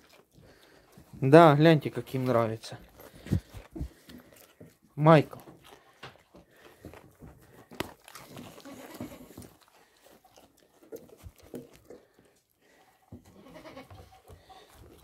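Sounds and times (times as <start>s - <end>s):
goats chewing: 0.0s - 15.0s.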